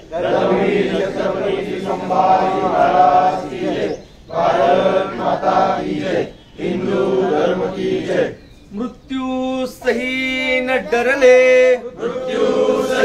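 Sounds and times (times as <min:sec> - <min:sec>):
voices chanting together: 0:00.0 - 0:13.0.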